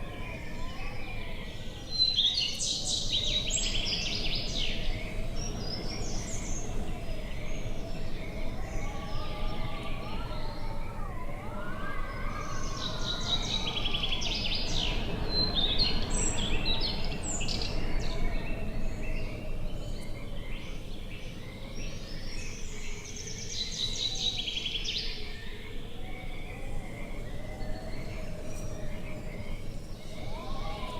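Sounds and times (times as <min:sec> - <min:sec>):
low outdoor rush: 0:00.0 - 0:30.9
songbirds singing: 0:00.0 - 0:30.9.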